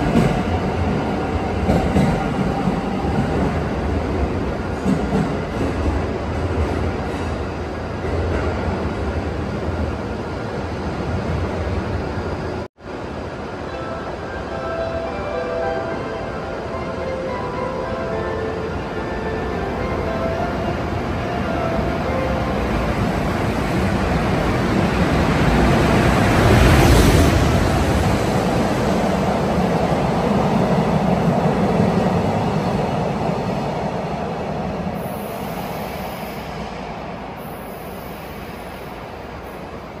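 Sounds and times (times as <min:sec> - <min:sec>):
train passing: 0:00.0 - 0:40.0.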